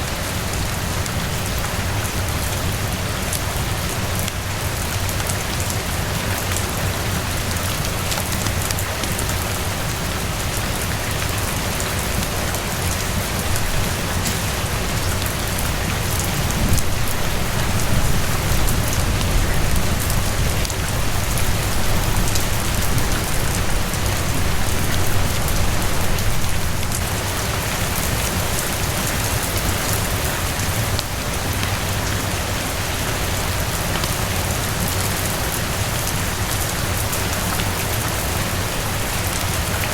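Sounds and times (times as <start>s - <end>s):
heavy rain on roof: 0.0s - 39.9s.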